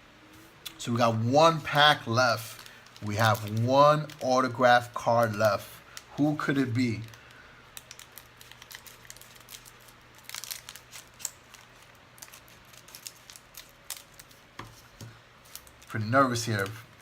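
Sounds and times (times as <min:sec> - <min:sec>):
card pack wrapper crinkling: 0:01.6 - 0:17.0.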